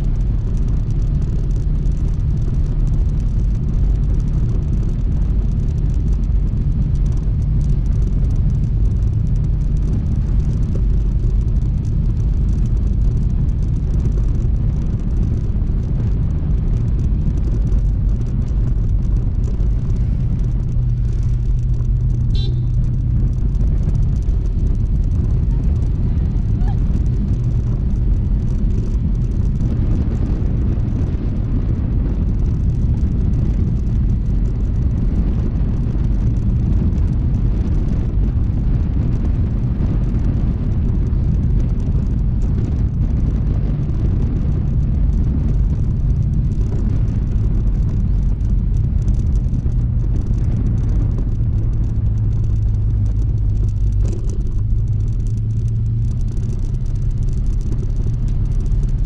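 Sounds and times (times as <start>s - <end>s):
low rumble: 0.0s - 59.0s
scooter engine running: 0.0s - 59.0s.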